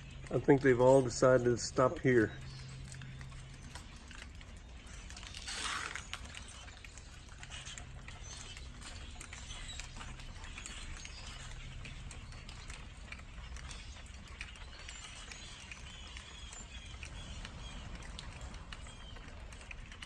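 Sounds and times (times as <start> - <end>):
flock of birds chirping: 0.0 - 20.0
low steady hum: 0.0 - 20.0.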